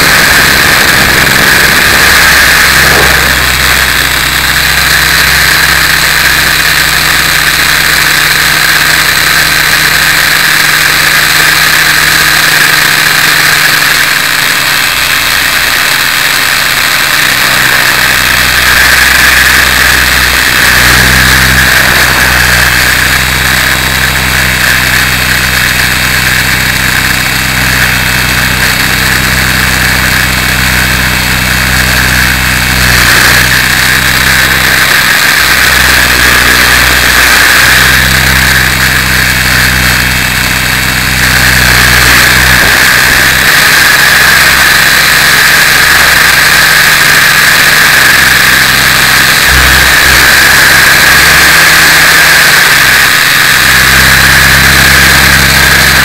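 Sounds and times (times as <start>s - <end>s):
motor and gears whining: 0.0s - 56.0s
rotor hum: 0.0s - 56.0s.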